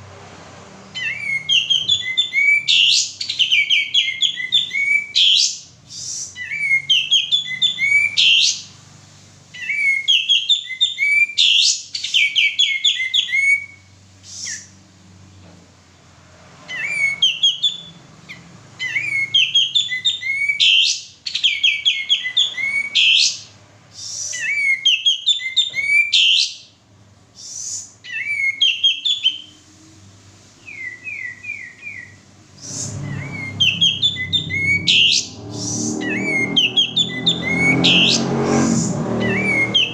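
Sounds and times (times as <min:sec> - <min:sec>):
bird chirping and whistling: 0:00.9 - 0:08.7, 0:09.5 - 0:14.7, 0:16.7 - 0:26.7, 0:27.4 - 0:29.6, 0:30.6 - 0:39.9.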